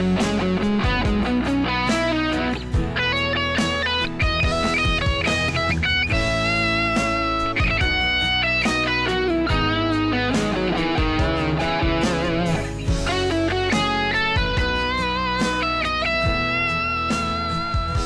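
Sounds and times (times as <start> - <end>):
instrumental pop music: 0.0 - 18.0
steady bass notes: 0.0 - 18.0.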